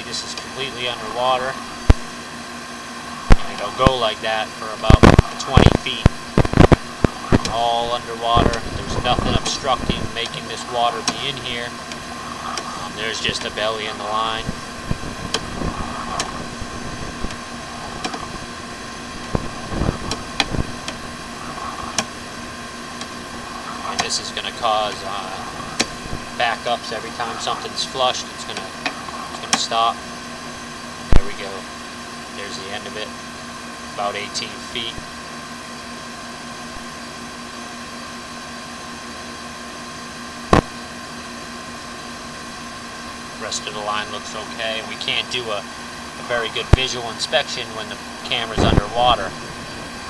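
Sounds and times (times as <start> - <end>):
steady electrical hum: 0.0 - 50.0.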